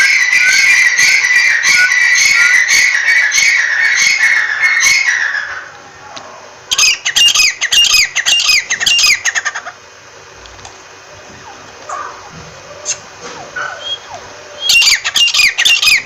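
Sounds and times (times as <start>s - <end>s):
francolin calling: 0.0s - 16.0s.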